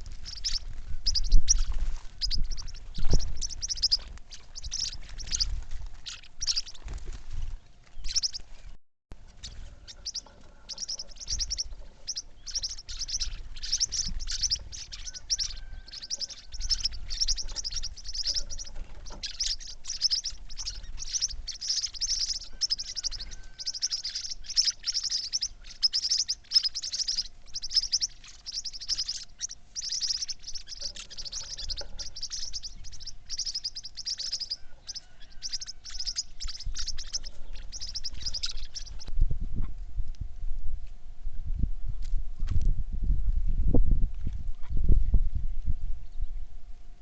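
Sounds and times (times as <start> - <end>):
small birds chirping: 0.0 - 39.4
faint steady hum: 0.0 - 47.0.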